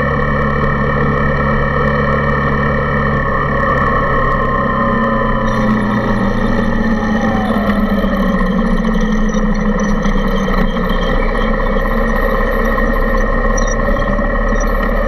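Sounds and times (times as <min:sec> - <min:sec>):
motorcycle engine running: 0:00.0 - 0:15.0
steady rush of noise: 0:00.0 - 0:15.0.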